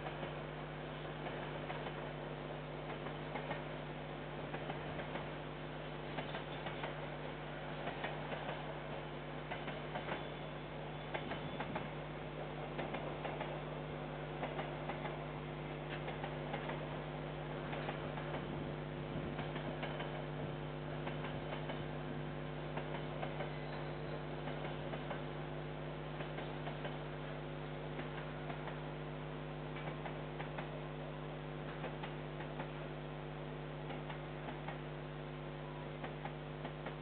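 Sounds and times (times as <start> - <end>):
wheels clicking over rails: 0.0 - 29.0, 29.6 - 31.0, 31.6 - 32.9, 33.8 - 35.0
electrical hum: 0.0 - 37.0.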